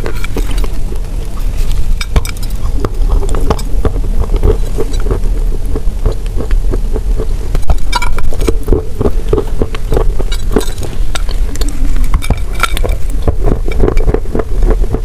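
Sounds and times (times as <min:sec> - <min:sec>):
crunchy chewing: 0:00.0 - 0:15.0
steady low hum: 0:00.0 - 0:15.0.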